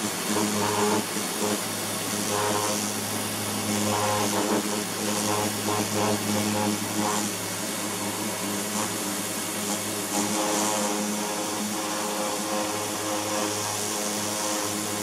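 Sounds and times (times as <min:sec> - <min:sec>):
pressure washer motor humming: 0:00.0 - 0:15.0
water jet hissing on plastic: 0:00.0 - 0:15.0.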